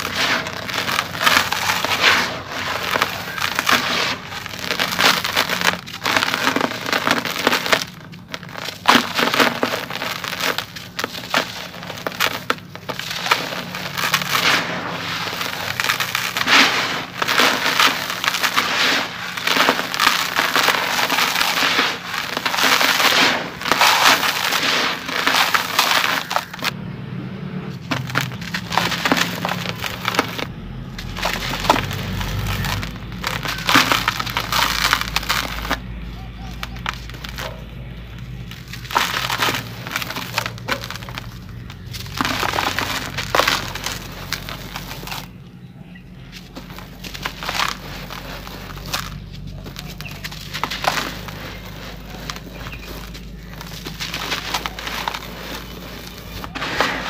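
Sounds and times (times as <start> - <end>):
cement clumps crushed by hand: 0.0 - 26.8, 27.7 - 57.0
grit pouring down: 0.0 - 26.8, 27.8 - 45.3, 46.4 - 57.0.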